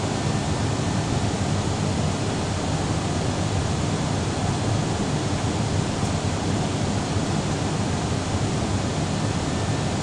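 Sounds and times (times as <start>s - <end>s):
airliner cabin noise in flight: 0.0s - 10.0s.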